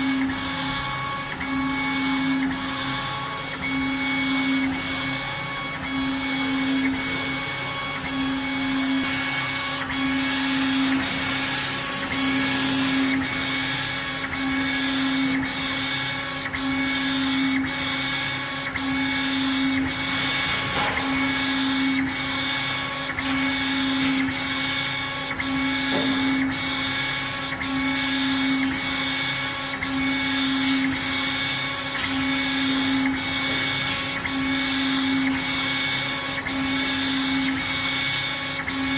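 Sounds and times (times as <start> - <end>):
laser head motors whining: 0.0 - 38.9
steady machine hum: 0.0 - 38.9.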